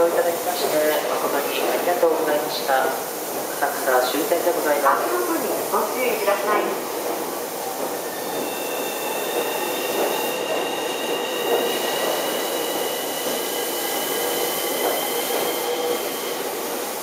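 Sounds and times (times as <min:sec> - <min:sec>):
electric train running: 0:03.2 - 0:17.0.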